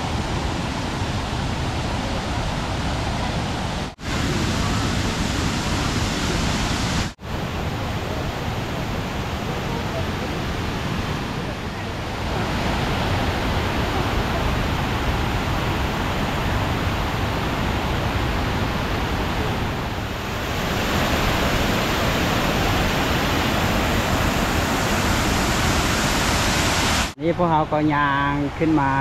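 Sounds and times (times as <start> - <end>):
waterfall rushing: 0.0 - 27.2.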